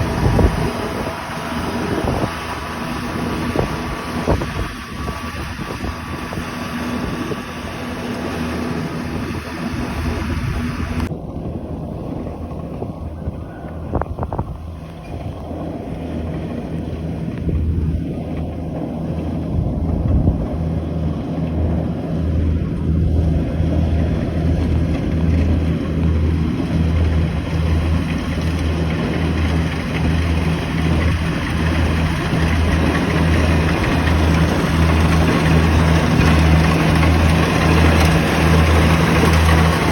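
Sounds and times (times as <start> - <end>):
combine harvester engine throbbing: 0.0 - 39.9.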